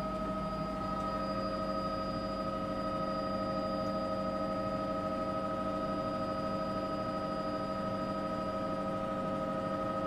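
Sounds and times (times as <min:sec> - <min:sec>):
helicopter engine and rotor drone: 0:00.0 - 0:10.0.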